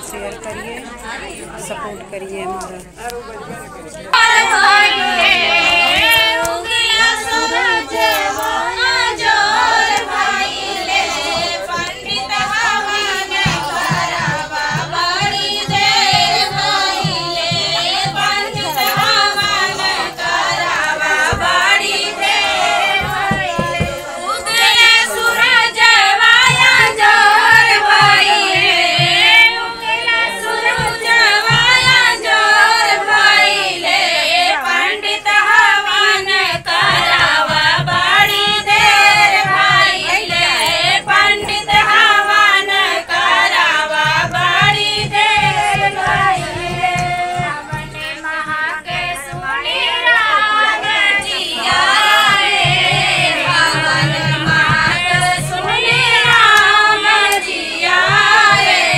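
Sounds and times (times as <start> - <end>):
women singing together: 0.0 - 58.9
low rhythmic beat: 0.1 - 58.9.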